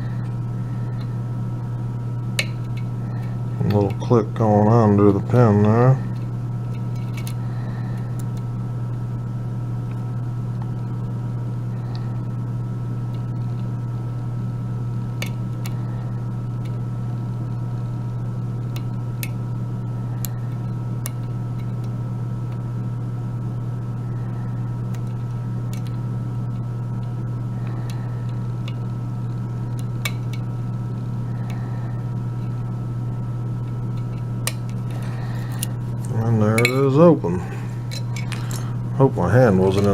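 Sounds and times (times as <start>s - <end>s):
low hum with higher whine: 0.0s - 39.9s.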